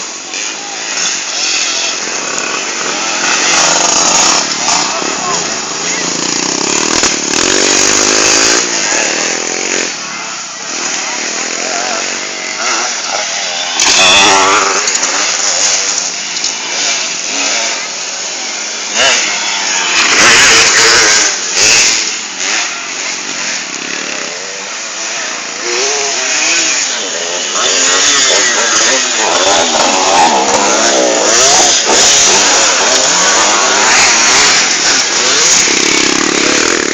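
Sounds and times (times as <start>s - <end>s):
motocross bike engines revving: 0.0s - 36.9s.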